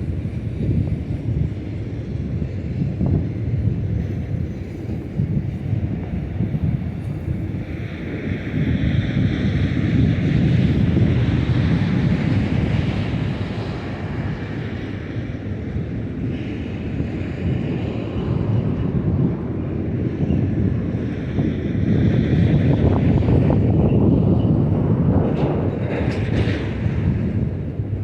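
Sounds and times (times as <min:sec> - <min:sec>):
train wheels rumbling on rail: 0:00.0 - 0:28.0
wind buffeting microphone: 0:00.0 - 0:28.0.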